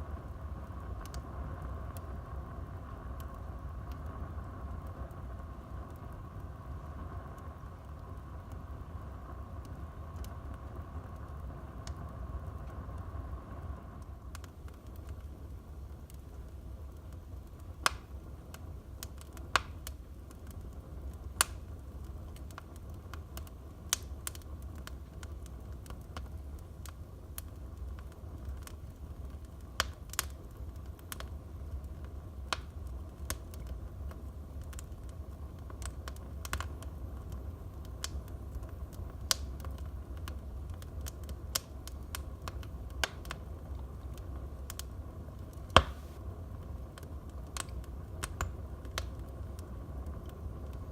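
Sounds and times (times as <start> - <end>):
fire pops and snaps: 0.0 - 50.9
wood fire crackling: 0.0 - 50.9.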